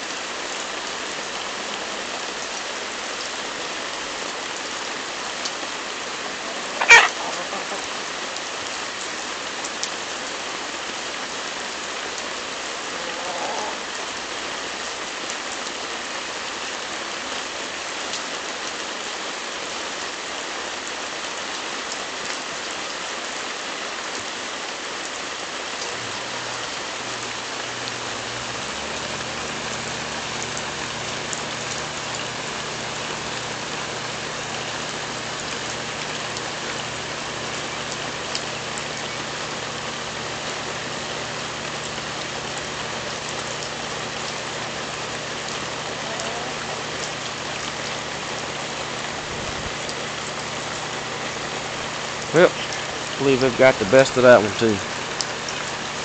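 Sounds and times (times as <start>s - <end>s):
rain falling on wet ground: 0.0s - 56.0s.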